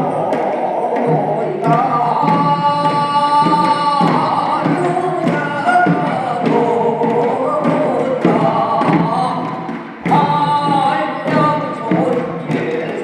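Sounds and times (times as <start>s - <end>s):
drum beats: 0.0s - 13.0s
elderly people singing: 0.0s - 13.0s.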